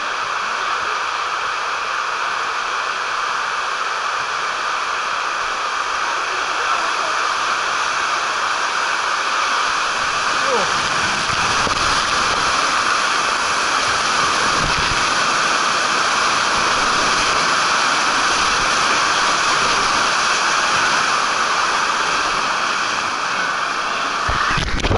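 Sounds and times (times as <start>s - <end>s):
flowing water rushing: 0.0s - 24.9s.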